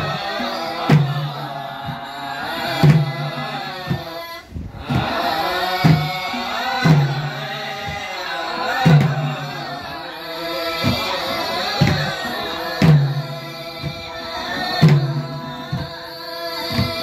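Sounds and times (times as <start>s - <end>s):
group singing a chant: 0.0s - 17.0s.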